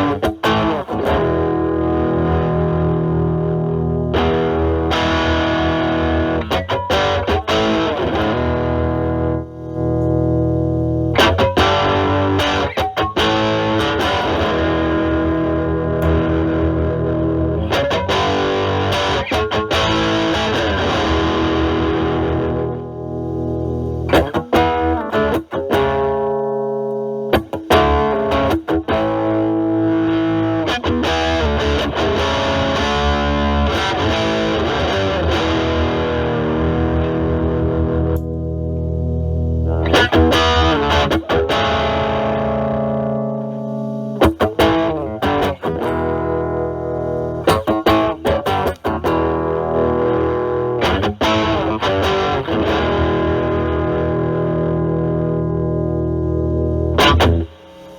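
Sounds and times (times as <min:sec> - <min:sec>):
distorted electric guitar chords: 0:00.0 - 0:57.9.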